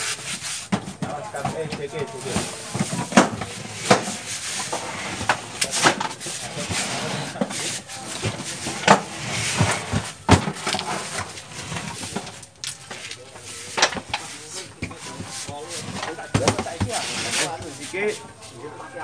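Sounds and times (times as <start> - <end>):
case scraping: 0.6 - 18.3
low men's voices: 0.9 - 19.0.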